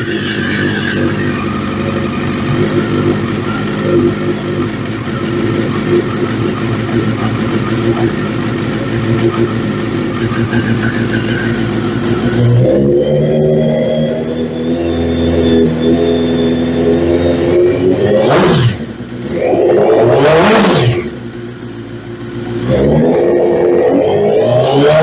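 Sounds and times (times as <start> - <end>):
motorcycle engine idling: 0.0 - 13.2, 14.2 - 20.0, 20.9 - 23.0.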